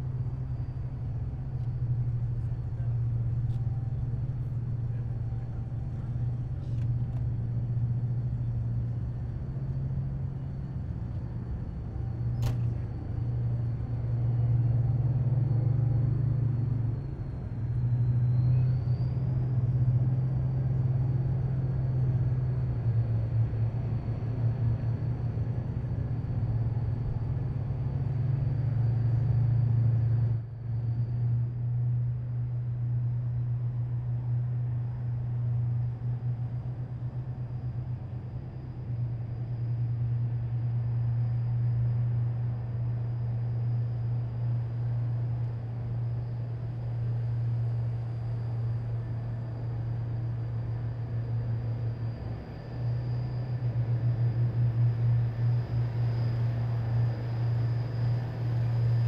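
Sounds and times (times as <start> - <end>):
heavy vehicle engines rumbling: 0.0 - 59.0.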